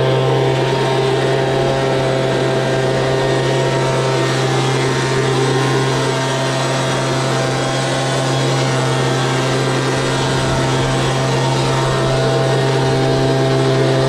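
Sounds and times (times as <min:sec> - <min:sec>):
harvest machinery droning: 0:00.0 - 0:14.0.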